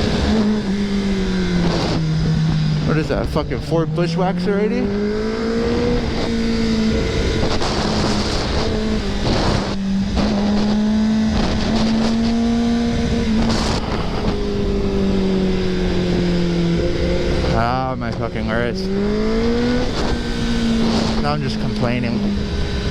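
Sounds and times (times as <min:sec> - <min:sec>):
motorcycle engine running: 0:00.0 - 0:22.9
wind rushing over microphone: 0:00.0 - 0:22.9.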